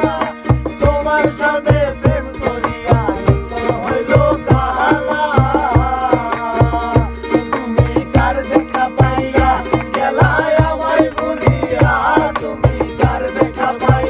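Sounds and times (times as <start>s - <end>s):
cajon low thump: 0.0s - 14.0s
ukulele strumming: 0.0s - 14.0s
voices singing: 0.0s - 14.0s.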